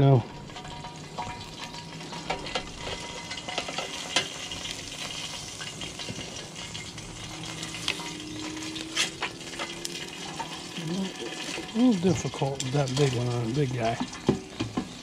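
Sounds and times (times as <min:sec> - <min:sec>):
fish sizzling in air fryer: 0:00.0 - 0:15.0.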